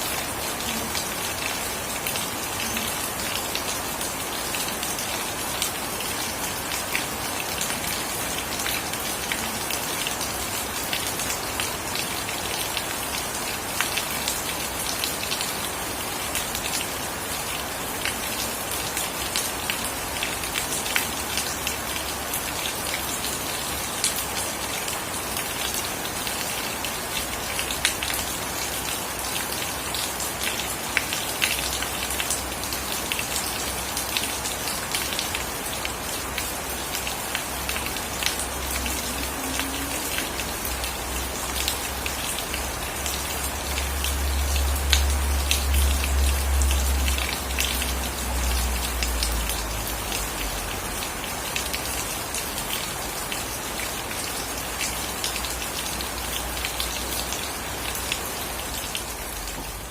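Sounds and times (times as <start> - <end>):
rain falling: 0.0 - 59.9
raindrops ticking on surfaces: 0.0 - 59.9.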